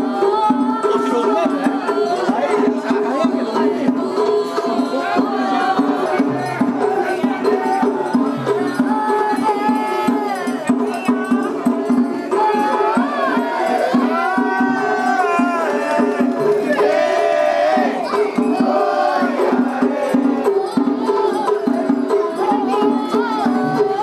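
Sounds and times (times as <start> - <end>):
steady drum beat: 0.0 - 24.0.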